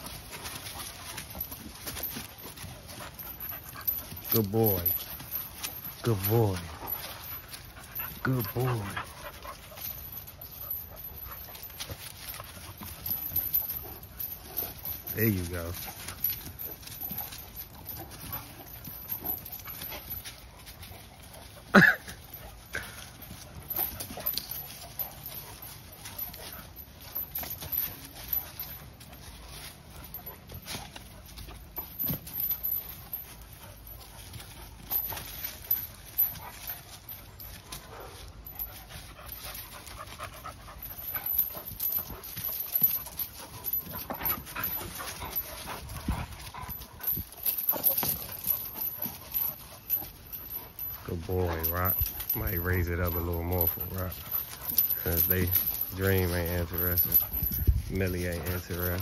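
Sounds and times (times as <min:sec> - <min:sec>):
dogs panting: 0:00.0 - 0:59.0
dogs scuffling through dry leaves: 0:00.0 - 0:59.0.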